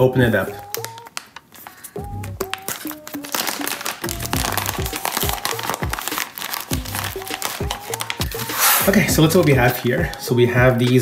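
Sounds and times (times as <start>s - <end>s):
background music with steady beat: 0.0s - 11.0s
plastic zip bag crinkling: 0.0s - 11.0s.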